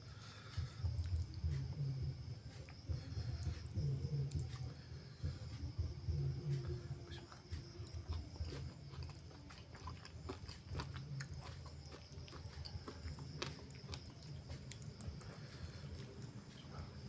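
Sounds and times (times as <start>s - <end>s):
close chewing clicks: 0.5s - 1.8s, 2.6s - 5.3s, 6.6s - 17.0s.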